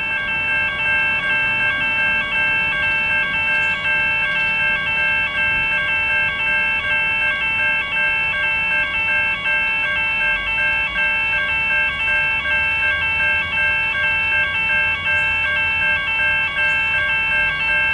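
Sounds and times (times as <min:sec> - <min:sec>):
level crossing warning bells: 0:00.0 - 0:17.9.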